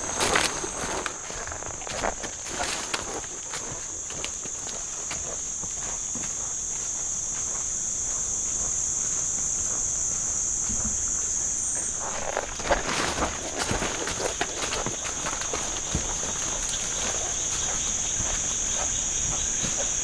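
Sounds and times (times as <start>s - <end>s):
footsteps: 0.0s - 20.0s
insects droning: 0.0s - 20.0s.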